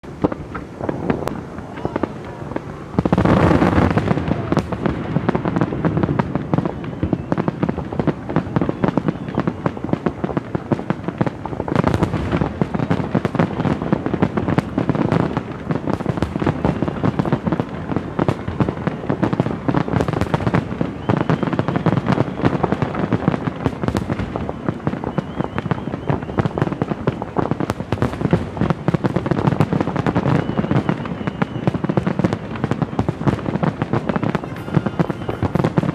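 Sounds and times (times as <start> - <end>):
fireworks bursting and crackling: 0.0 - 35.9.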